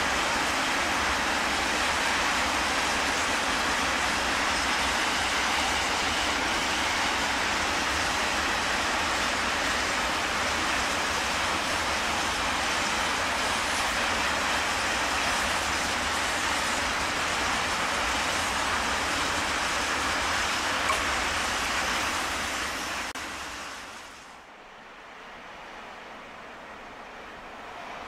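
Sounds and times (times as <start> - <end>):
freight train rolling past: 0.0 - 28.0.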